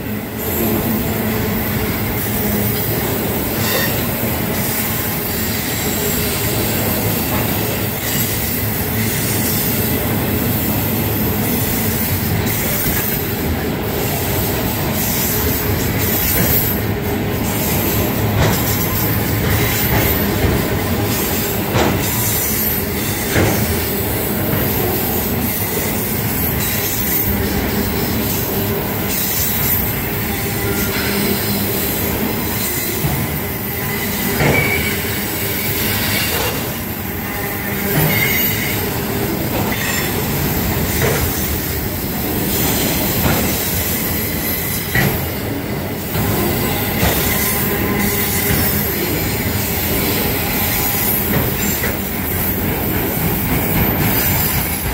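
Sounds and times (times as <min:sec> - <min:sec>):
train wheels rumbling on rail: 0:00.0 - 0:54.9
high wheel squeal: 0:00.4 - 0:10.1, 0:11.5 - 0:54.9.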